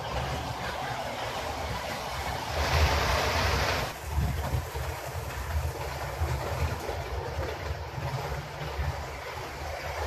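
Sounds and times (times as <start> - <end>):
model train wheels rushing: 0.0 - 10.0.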